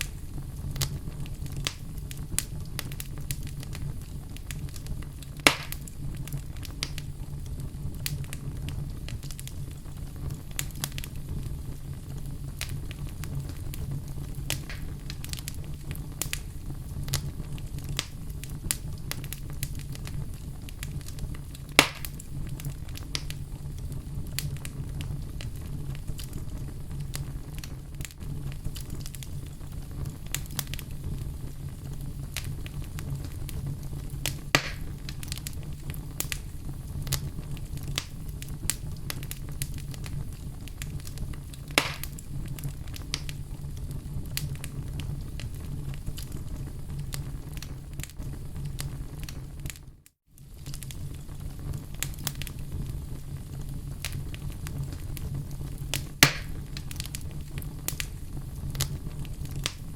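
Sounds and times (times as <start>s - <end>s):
fire burning in fireplace: 0.0s - 59.9s
fire crackling: 0.0s - 59.9s
sharp fire pops: 0.0s - 59.9s.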